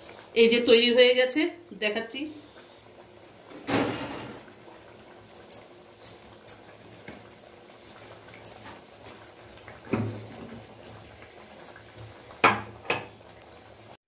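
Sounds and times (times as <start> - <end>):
curry bubbling in a wok: 2.3 - 14.0.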